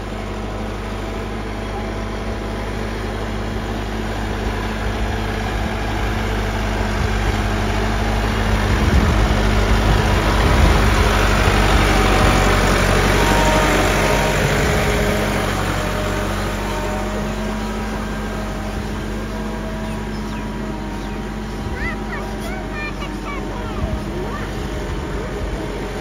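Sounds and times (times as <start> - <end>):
mud and water churning: 0.0 - 26.0
tractor diesel engine under load: 0.0 - 26.0.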